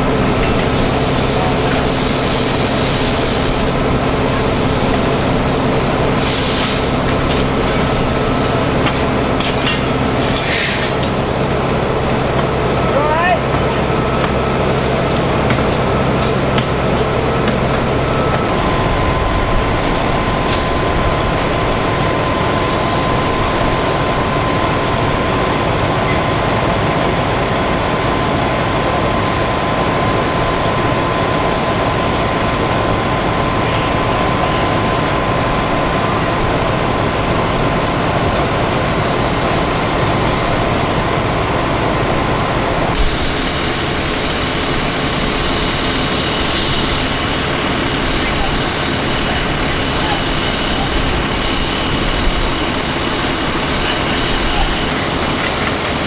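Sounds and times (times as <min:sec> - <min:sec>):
diesel engine rumble: 0:00.0 - 0:56.0
steady whine: 0:00.0 - 0:56.0.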